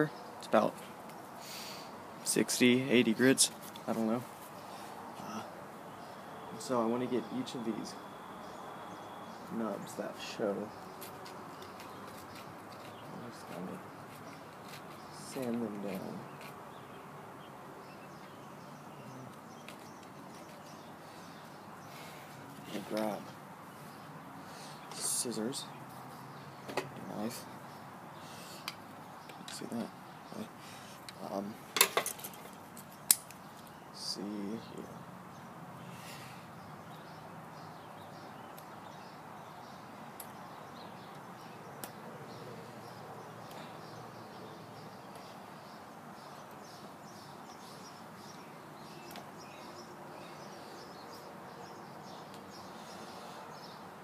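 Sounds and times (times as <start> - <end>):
background hiss: 0.0 - 54.0
birds chirping faintly: 0.0 - 54.0.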